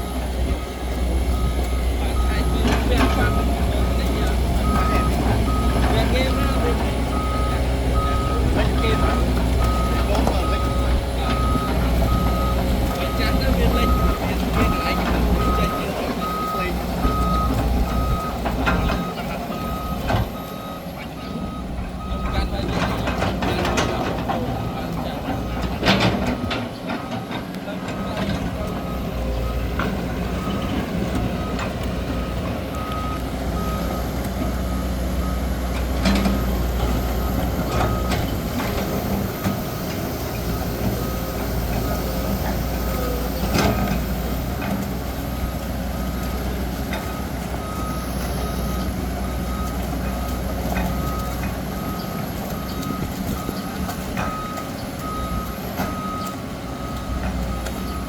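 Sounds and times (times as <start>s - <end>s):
reversing alarm beeping: 0.0s - 27.2s, 27.9s - 58.0s
heavy diesel engine rumble: 0.0s - 58.0s.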